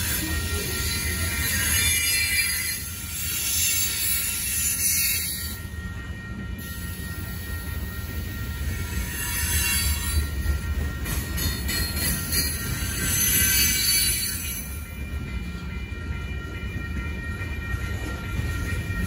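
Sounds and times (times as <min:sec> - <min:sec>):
crossing bell ringing: 0:00.0 - 0:19.0
train wheels rumbling on rail: 0:00.0 - 0:19.0.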